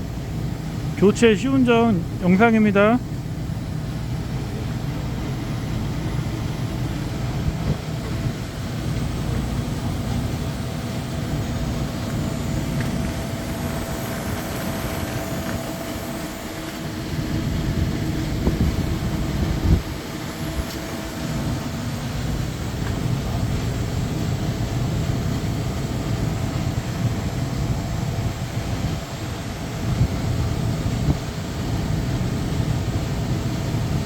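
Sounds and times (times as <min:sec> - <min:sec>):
compressor and fan hum: 0:00.0 - 0:34.0.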